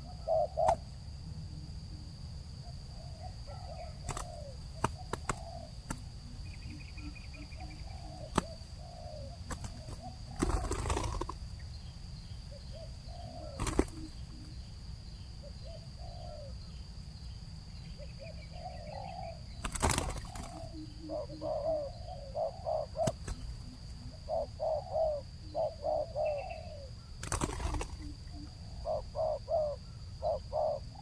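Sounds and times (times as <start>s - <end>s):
doves cooing: 0.0s - 0.9s, 2.6s - 11.5s, 12.5s - 14.7s, 15.4s - 16.6s, 17.9s - 31.0s.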